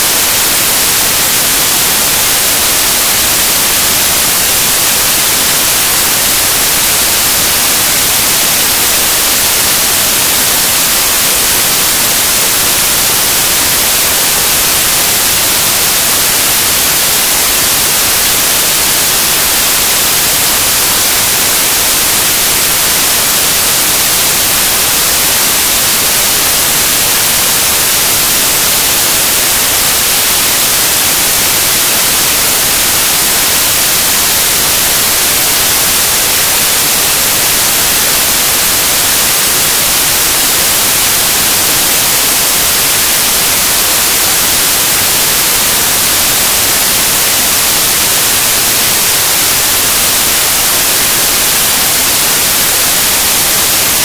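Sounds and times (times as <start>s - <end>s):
static hiss: 0.0s - 54.0s.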